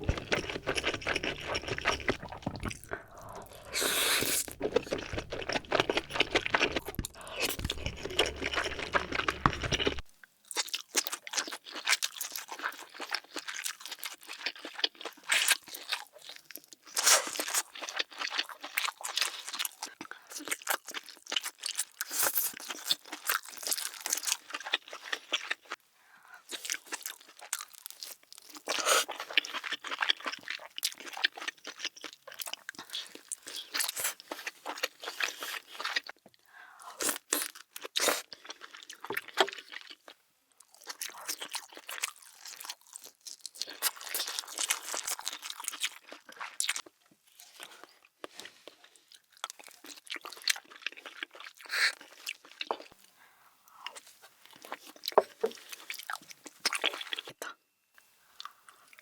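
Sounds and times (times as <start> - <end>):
chewing seafood: 0.0 - 25.8, 26.4 - 57.6.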